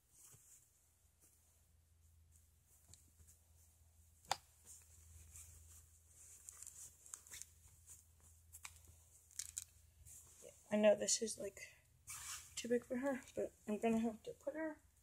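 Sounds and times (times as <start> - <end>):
faint fabric rustling: 0.0 - 15.0.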